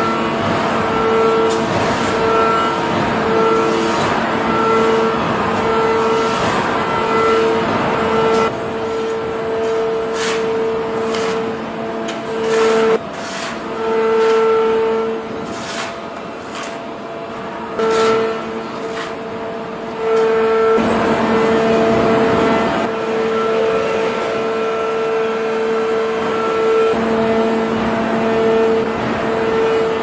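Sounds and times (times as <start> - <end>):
forging press hum with pulsing whine: 0.0 - 30.0.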